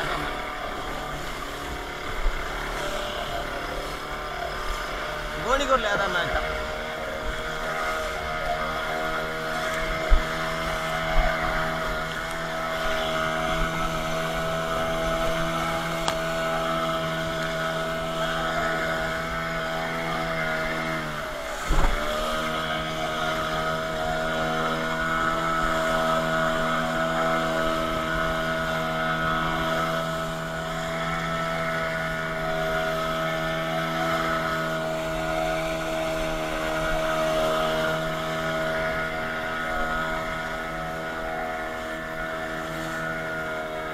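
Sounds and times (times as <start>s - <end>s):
outboard motor running: 0.0s - 43.9s.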